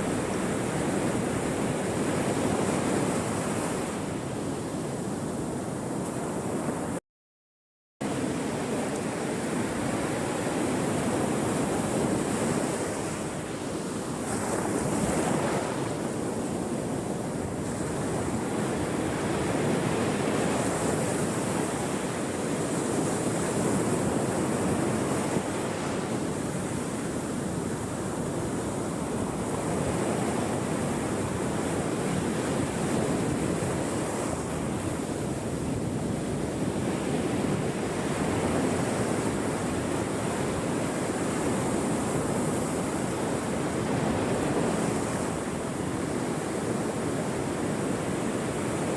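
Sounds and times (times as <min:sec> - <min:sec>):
ocean waves washing ashore: 0:00.0 - 0:07.0, 0:08.0 - 0:48.9.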